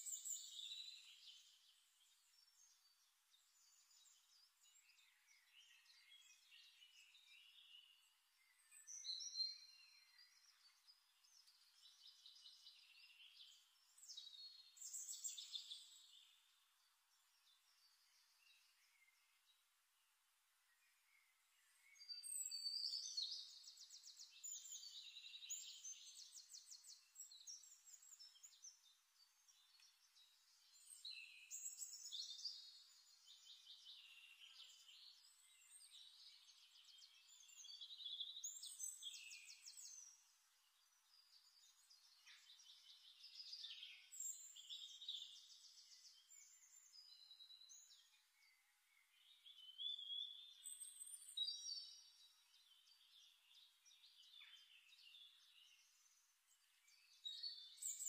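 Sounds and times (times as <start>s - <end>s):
faint songbird trills and chirps: 0.0s - 58.0s.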